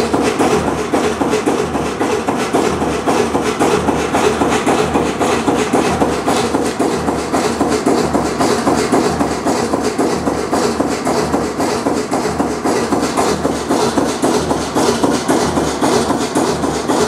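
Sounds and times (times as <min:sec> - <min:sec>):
marine diesel engine running: 0:00.0 - 0:17.0.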